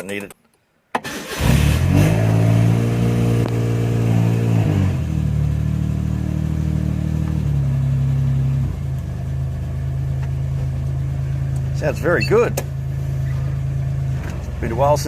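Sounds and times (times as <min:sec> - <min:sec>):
car engine idling: 0:01.8 - 0:15.0.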